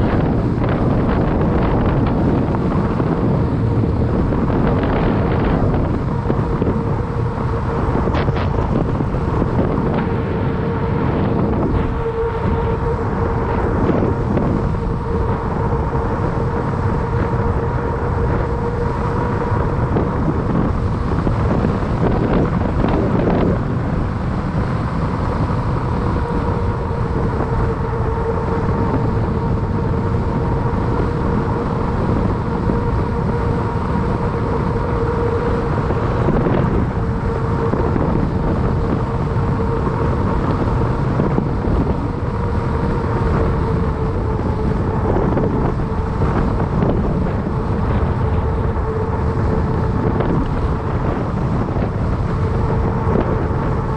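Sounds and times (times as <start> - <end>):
bike tyres humming: 0.0 - 53.9
wind on microphone: 0.0 - 53.9.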